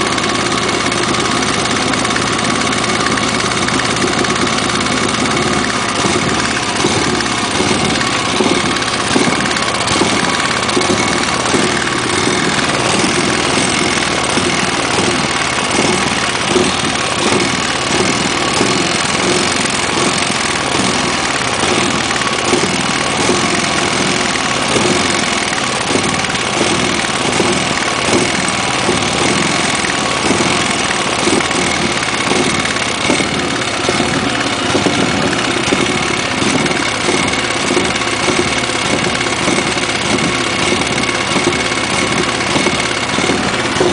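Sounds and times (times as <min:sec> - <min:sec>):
small engine idling: 0:00.0 - 0:43.9.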